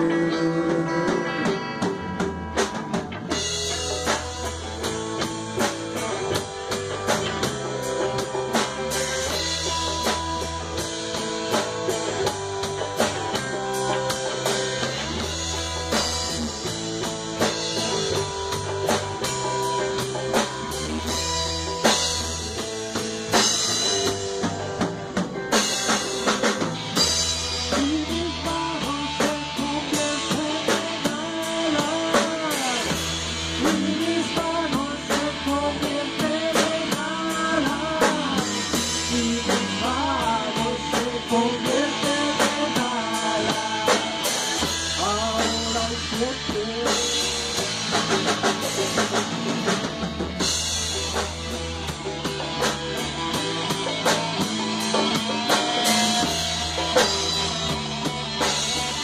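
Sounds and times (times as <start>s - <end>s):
drum kit: 0.0s - 59.0s
electric bass: 0.0s - 59.0s
electric guitar lead: 0.0s - 59.0s.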